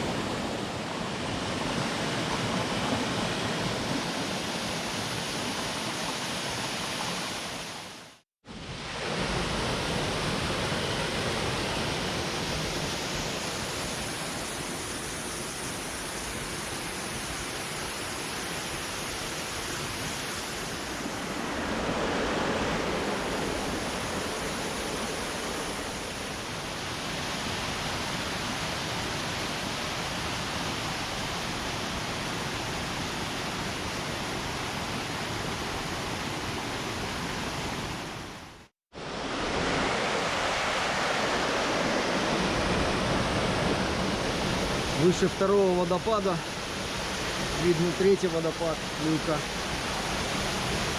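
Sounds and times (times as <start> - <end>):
mountain stream and waterfall: 0.0 - 50.9.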